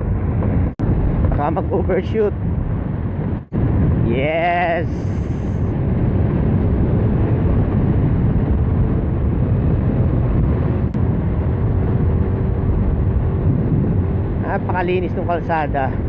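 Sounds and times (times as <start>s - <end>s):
wind and road rush: 0.0s - 16.0s.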